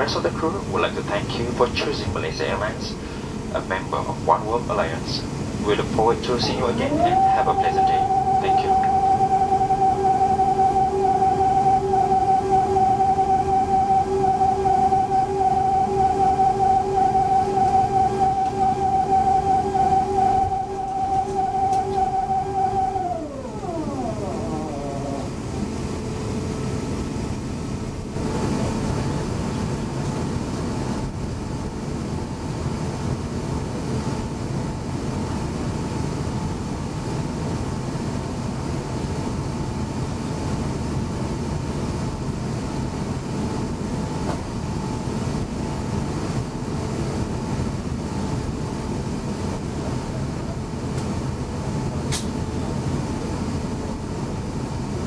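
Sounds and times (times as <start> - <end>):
aircraft cabin rumble taxiing: 0.0 - 54.3
faint steady whine: 0.0 - 55.0.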